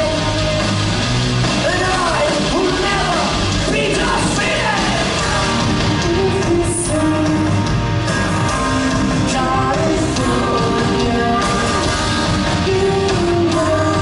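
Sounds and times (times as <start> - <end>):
person singing: 0.0 - 0.8, 1.6 - 7.8, 8.4 - 14.0
bass guitar: 0.0 - 14.0
drums: 0.0 - 14.0
electric guitar: 0.0 - 14.0.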